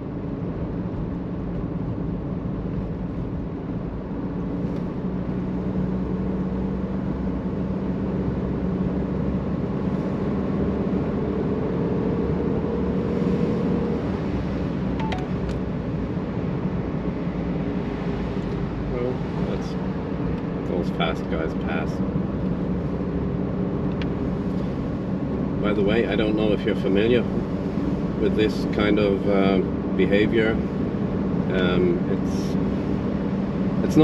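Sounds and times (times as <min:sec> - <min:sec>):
diesel engine hum: 0:00.0 - 0:34.0.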